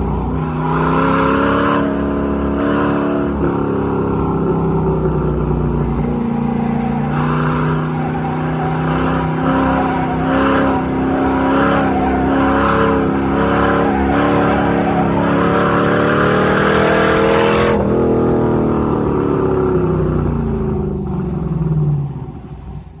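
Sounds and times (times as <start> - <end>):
car engine revving and coasting: 0.0 - 23.0.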